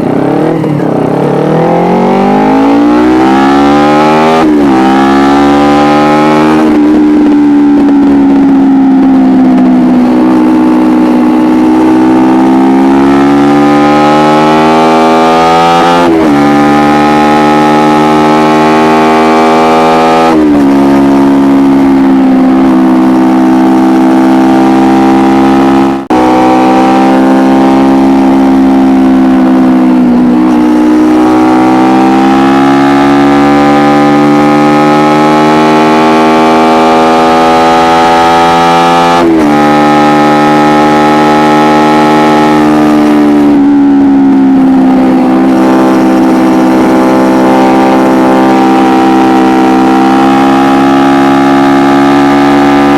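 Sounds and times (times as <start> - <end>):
motorcycle engine at high revs: 0.0 - 52.9.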